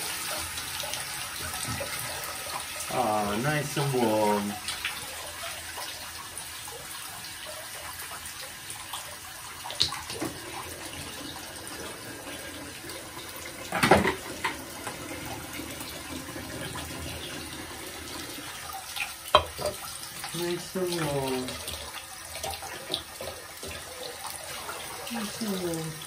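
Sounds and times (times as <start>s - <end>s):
bath tap running: 0.0s - 26.0s.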